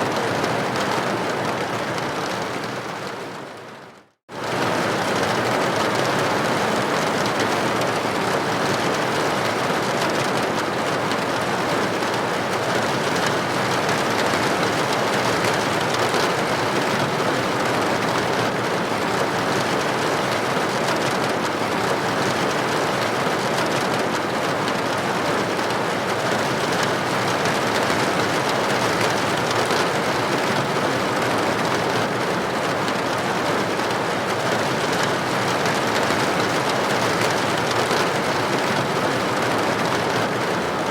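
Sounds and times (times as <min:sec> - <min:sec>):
rain pattering on window: 0:00.0 - 0:40.9.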